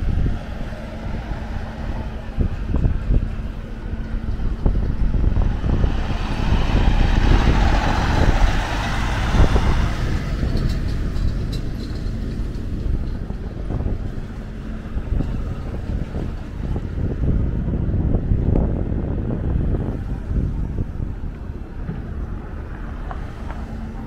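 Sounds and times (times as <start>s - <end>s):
street traffic: 0.0s - 24.0s
truck passing close: 0.0s - 24.0s.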